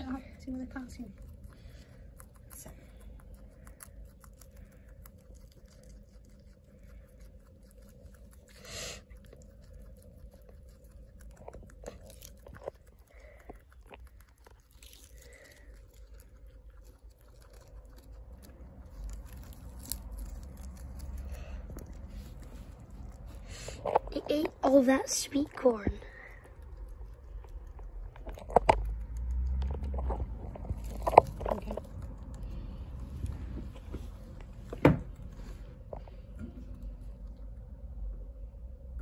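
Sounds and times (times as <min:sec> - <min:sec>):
guinea pig chewing food: 0:00.0 - 0:39.0.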